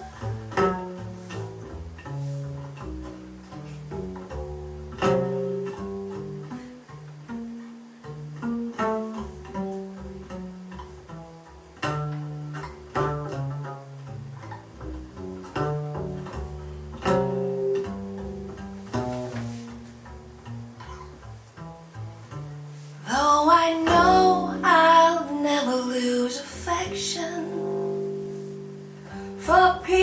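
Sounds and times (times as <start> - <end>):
bowed strings sustained notes: 0.0 - 30.0
plucked string notes: 0.0 - 30.0.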